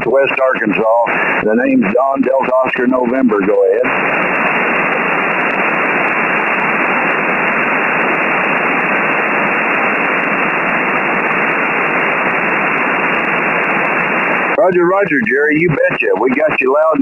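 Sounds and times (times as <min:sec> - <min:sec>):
shortwave radio hiss: 0:00.0 - 0:17.0.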